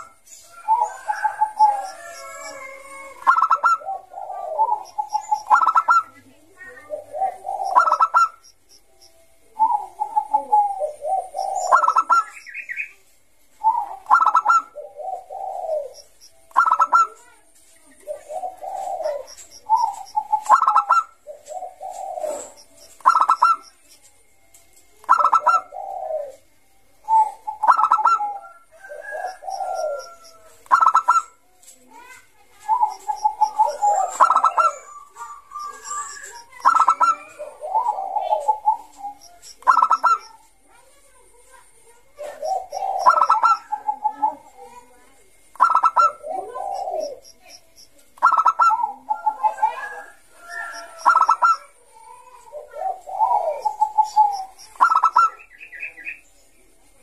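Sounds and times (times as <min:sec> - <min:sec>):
dove cooing song: 0:00.0 - 0:40.8, 0:41.4 - 0:57.0.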